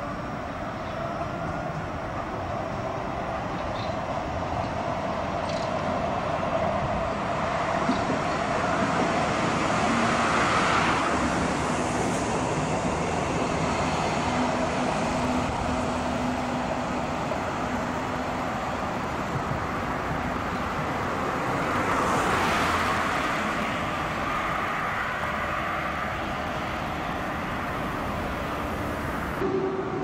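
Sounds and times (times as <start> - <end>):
tram wheels rumbling on rail: 0.0 - 30.0.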